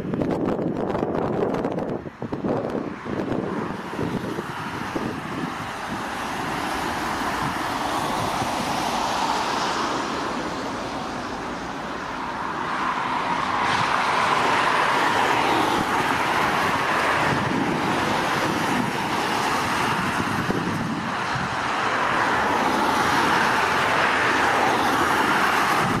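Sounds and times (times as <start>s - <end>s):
jet airliner taking off: 0.1s - 26.0s
tyres rolling through spray: 3.2s - 26.0s.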